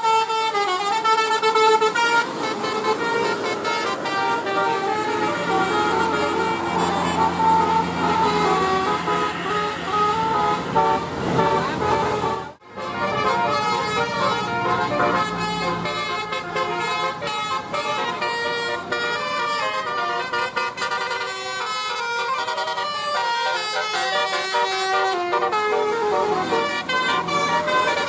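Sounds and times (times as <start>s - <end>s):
bus engine running: 0.0s - 28.0s
musical bus horn tune: 0.0s - 28.0s.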